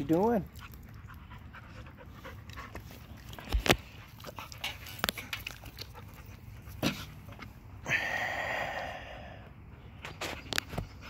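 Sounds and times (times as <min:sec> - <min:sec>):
dogs playing and panting: 0:00.0 - 0:07.8, 0:09.4 - 0:11.0.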